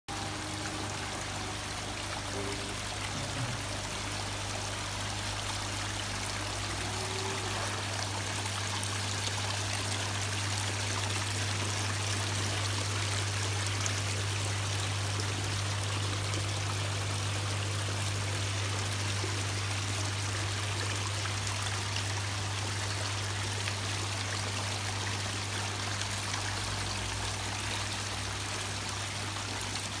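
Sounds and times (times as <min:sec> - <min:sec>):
water trickling and splashing: 0:00.1 - 0:30.0.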